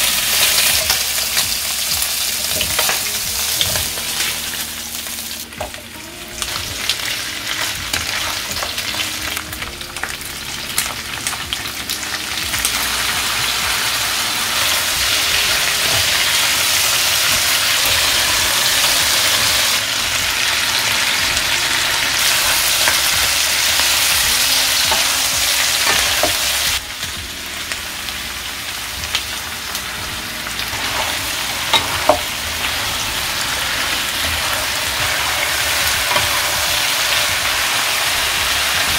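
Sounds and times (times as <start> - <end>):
food sizzling in frying pan: 0.0 - 38.9.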